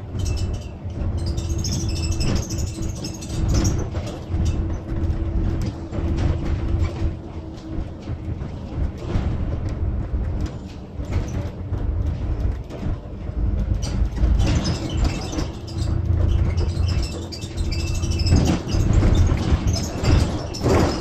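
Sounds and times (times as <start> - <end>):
bodywork rattling: 0.0 - 21.0
bus engine and road noise: 0.0 - 21.0.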